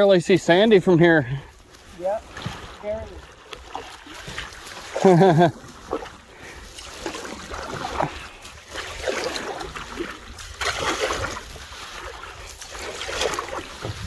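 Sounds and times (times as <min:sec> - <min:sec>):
paddle splashing through water: 0:00.0 - 0:14.0.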